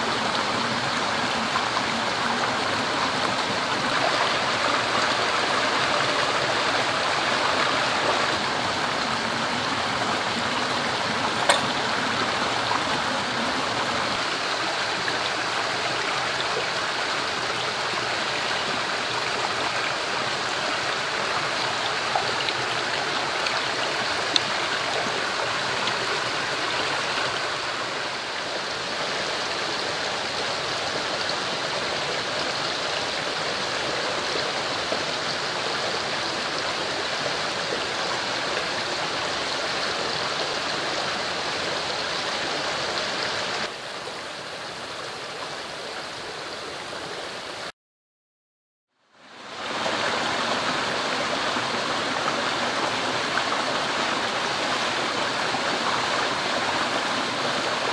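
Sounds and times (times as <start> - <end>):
stream rushing over rocks: 0.0 - 47.7, 49.2 - 57.9.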